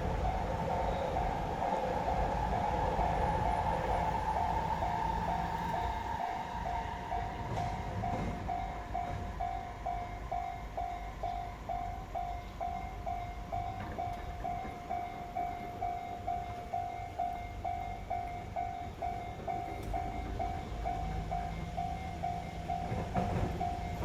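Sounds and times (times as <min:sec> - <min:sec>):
level-crossing warning bell: 0:00.0 - 0:24.0
train rumbling on tracks: 0:00.0 - 0:24.0.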